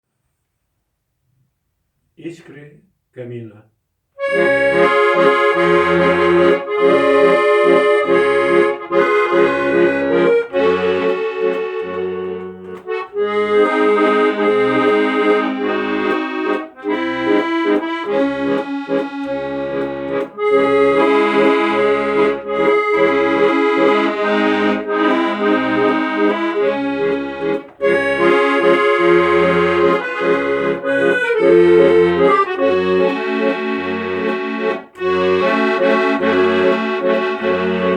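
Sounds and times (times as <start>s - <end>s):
instrumental music with chords: 4.2s - 37.9s.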